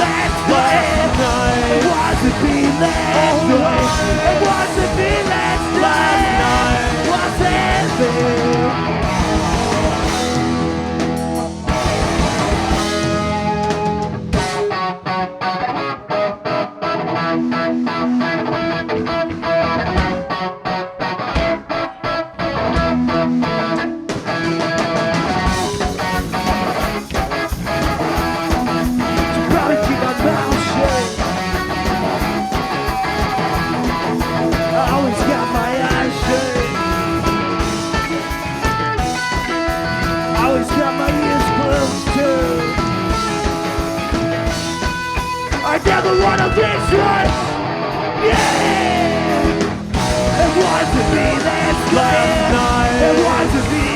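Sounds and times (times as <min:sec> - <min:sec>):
choppy rhythmic electric guitar: 0:00.0 - 0:53.9
live rock band playing: 0:00.0 - 0:53.9.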